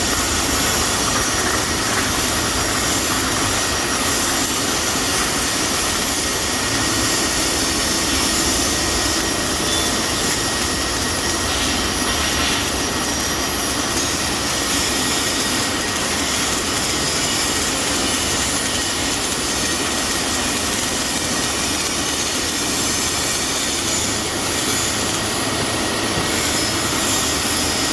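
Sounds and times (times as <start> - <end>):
loud steady hiss: 0.0 - 27.9.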